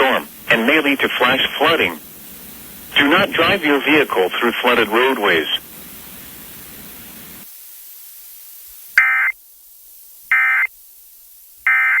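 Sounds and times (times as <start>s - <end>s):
buzzy digital data bursts: 0.0s - 9.4s, 10.3s - 10.8s, 11.6s - 12.0s
hiss of noise: 0.0s - 12.0s.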